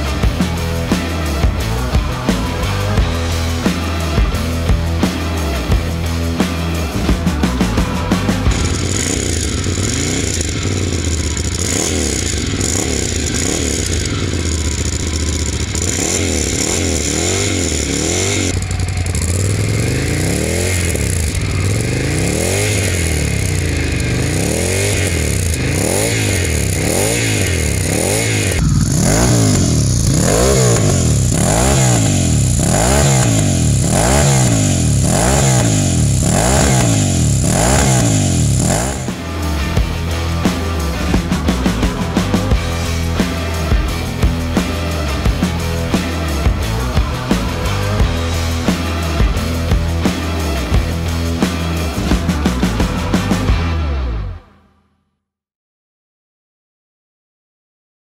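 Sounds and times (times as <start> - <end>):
motorcycle engine revving: 0.0 - 54.3.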